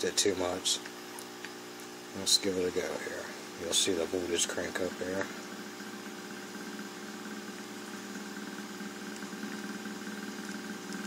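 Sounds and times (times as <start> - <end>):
small motor humming and pulsing: 0.2 - 11.0.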